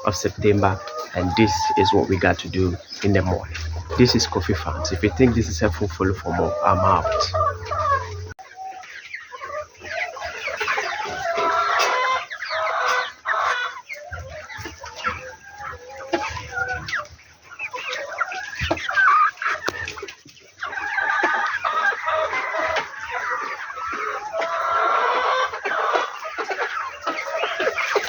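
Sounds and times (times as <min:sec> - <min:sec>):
chickens clucking and calling: 0:00.0 - 0:28.0.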